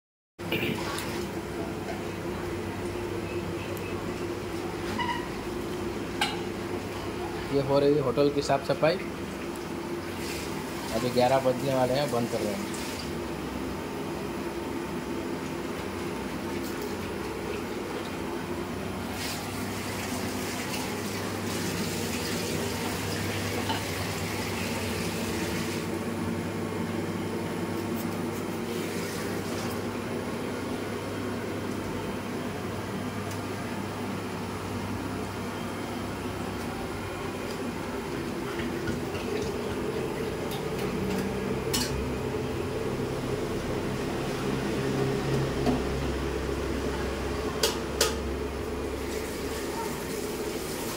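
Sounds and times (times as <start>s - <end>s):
steady mechanical hum: 0.4s - 50.9s.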